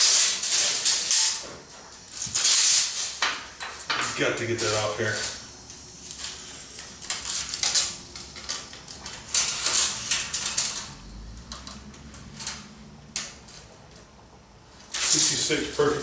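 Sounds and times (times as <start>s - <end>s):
tape measure clinking on metal: 0.0s - 5.5s, 6.1s - 13.7s, 14.8s - 16.0s.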